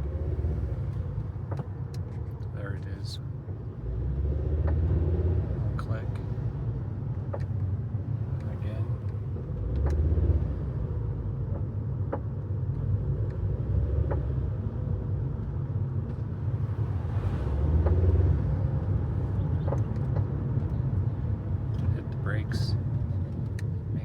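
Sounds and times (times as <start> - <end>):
car engine low rumble: 0.0 - 24.0.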